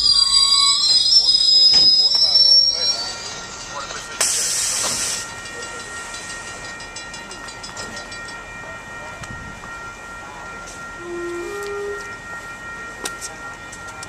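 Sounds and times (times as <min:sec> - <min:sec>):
train high whine: 0:00.0 - 0:14.0.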